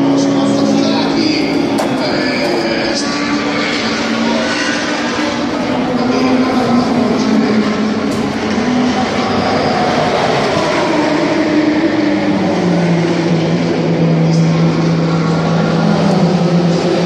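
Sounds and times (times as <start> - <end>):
racing car engine running: 0.0 - 17.0.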